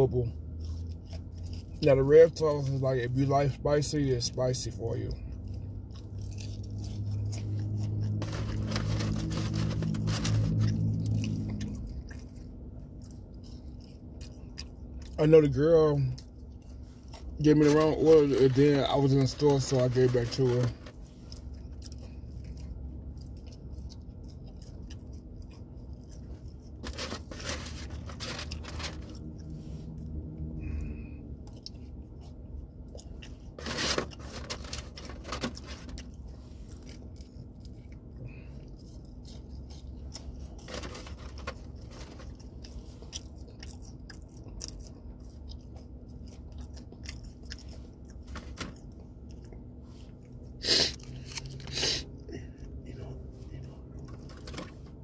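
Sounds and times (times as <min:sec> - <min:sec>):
crunching on crispy tacos: 0:00.0 - 0:55.0
steady low hum: 0:00.0 - 0:55.0.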